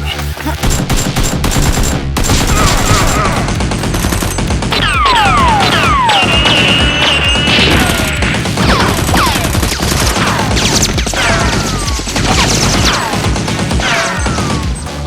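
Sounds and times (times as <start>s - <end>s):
background music: 0.0s - 15.0s
gunfire bursts: 0.6s - 15.0s.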